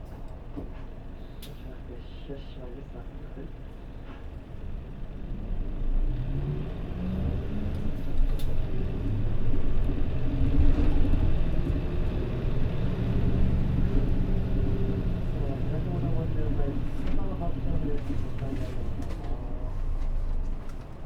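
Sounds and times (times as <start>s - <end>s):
bus diesel engine rumbling: 0.0s - 21.0s.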